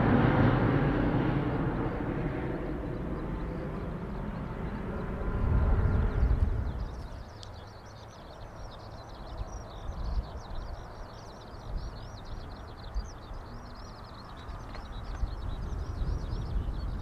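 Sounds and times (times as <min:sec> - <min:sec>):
low rumble of wind: 0:00.0 - 0:17.0
songbird chirping and trilling: 0:02.5 - 0:17.0.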